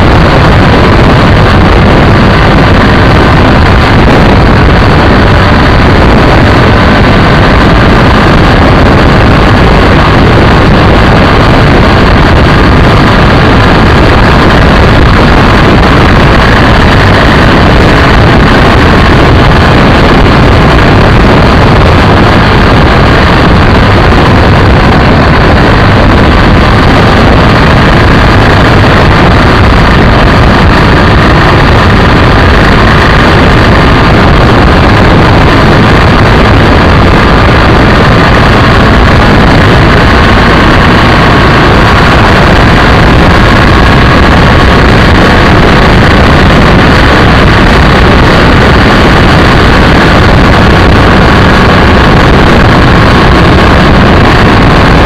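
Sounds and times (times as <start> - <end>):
motorcycle engine and wind noise: 0.0 - 55.0.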